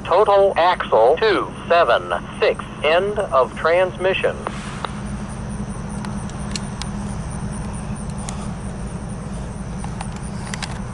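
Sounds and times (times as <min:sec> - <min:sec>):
freight train rumbling: 0:00.0 - 0:10.9.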